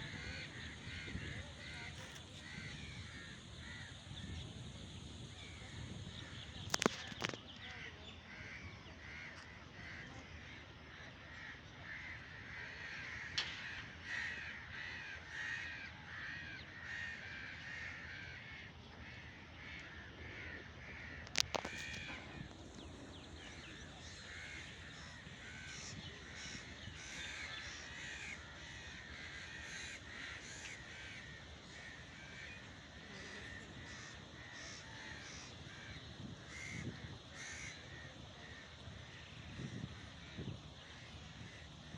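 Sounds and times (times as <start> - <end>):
flock of birds calling: 0.0 - 41.9.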